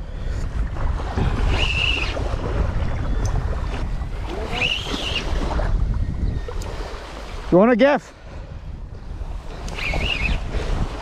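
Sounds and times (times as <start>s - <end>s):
small waves lapping: 0.0s - 11.0s
wind buffeting microphone: 0.0s - 11.0s.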